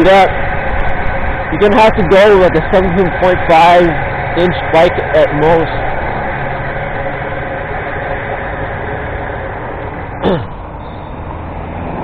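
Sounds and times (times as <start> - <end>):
electric bike motor hum: 0.0 - 12.0
road and wind noise: 0.0 - 12.0.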